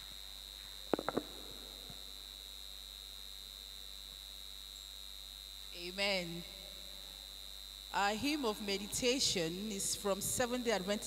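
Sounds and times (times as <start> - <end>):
faint mains hum: 0.0 - 11.0
high-pitched electrical whine: 0.0 - 11.0.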